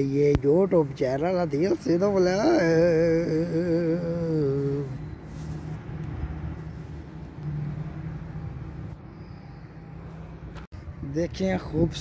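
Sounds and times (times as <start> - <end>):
outdoor low hum and noise: 0.0 - 12.0.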